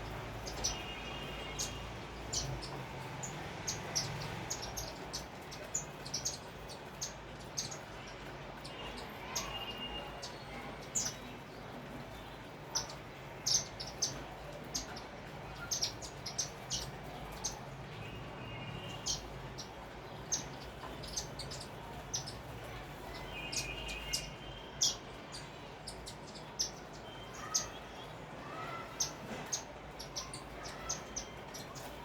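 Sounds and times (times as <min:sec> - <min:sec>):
sparrows chirping: 0:00.0 - 0:32.0.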